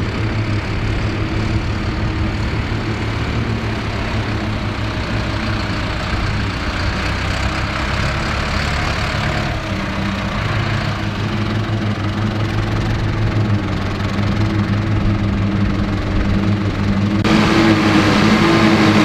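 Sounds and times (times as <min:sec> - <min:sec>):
harvester machinery rushing: 0:00.0 - 0:19.0
tractor diesel engine running: 0:00.0 - 0:19.0.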